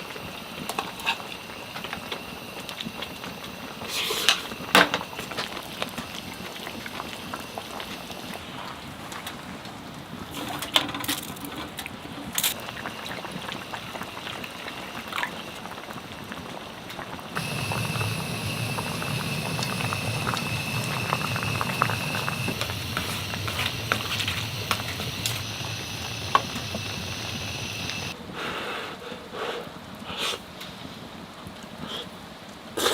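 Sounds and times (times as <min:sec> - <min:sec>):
liquid boiling in a pot: 0:00.0 - 0:28.2.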